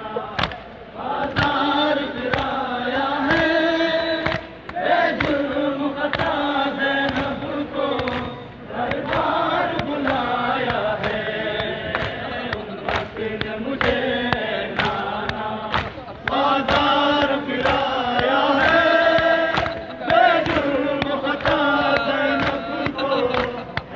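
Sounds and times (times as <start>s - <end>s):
crowd chanting in unison: 0.0s - 23.9s.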